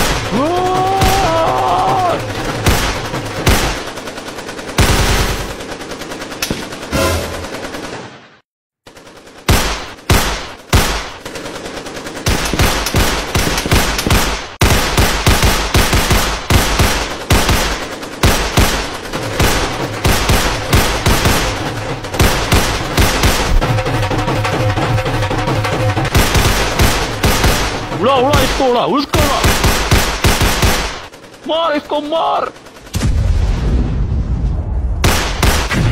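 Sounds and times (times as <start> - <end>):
gunshots and automatic fire: 0.0 - 33.4, 35.0 - 35.9.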